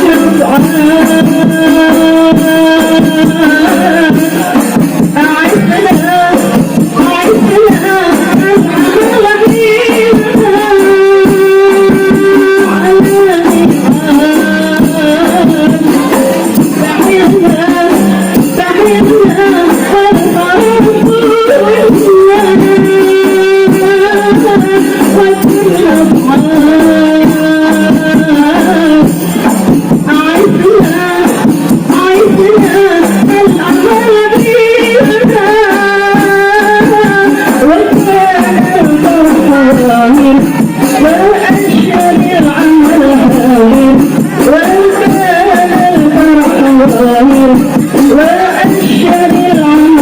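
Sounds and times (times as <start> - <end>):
frame drums beating: 0.0 - 50.0
person singing: 0.0 - 50.0.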